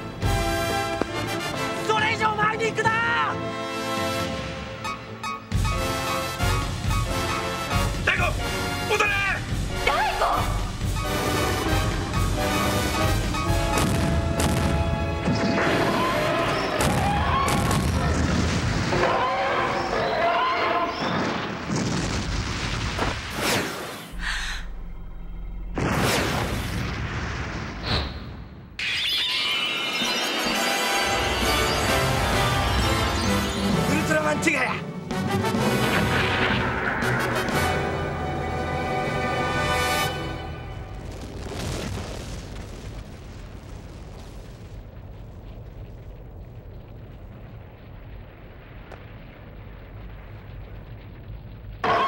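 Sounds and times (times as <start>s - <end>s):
explosions and booms: 5.5s - 24.0s, 25.6s - 28.8s, 31.1s - 52.0s.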